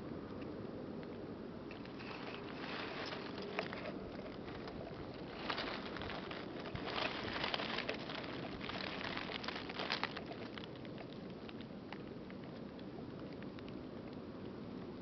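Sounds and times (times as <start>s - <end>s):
dry leaves rustling in wind: 0.0s - 15.0s.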